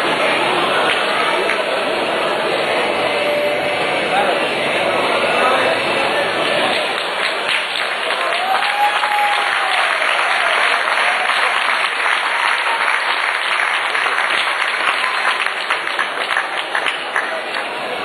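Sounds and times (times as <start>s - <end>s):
audience applauding: 0.0s - 3.5s, 4.1s - 18.0s.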